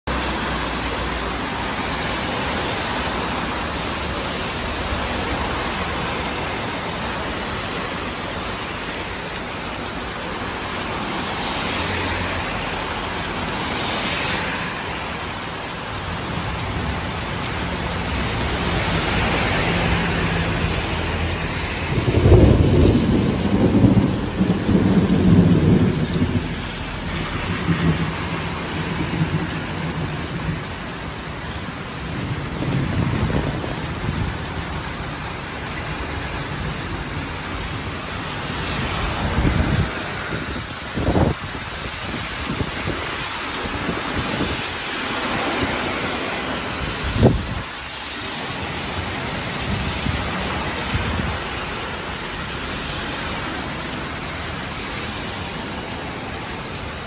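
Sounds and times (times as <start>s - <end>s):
heavy rain pouring: 0.0s - 57.0s
cars swishing past on wet road: 0.1s - 57.0s.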